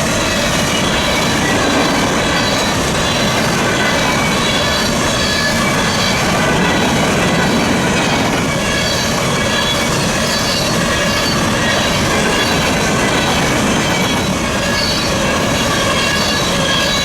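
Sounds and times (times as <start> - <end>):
freight train rumbling and rattling: 0.0 - 17.0
high wheel squeal: 0.0 - 17.0.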